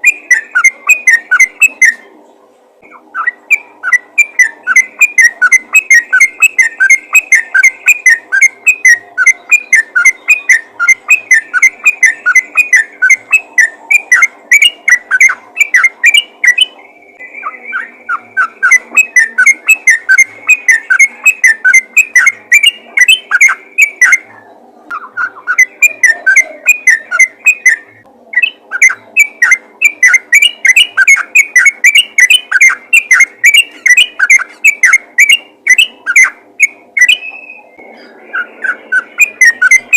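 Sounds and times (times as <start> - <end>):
bird chattering call: 0.0 - 2.0, 2.8 - 39.9.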